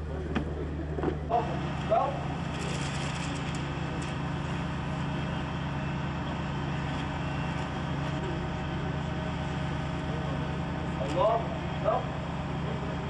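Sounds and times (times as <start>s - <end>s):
faint voices: 0.0s - 6.9s, 7.7s - 13.0s
low mechanical hum: 0.0s - 13.0s.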